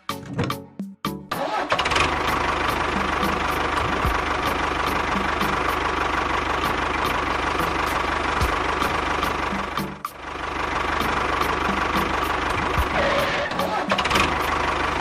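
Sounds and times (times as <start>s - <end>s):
small engine running: 1.3s - 15.0s.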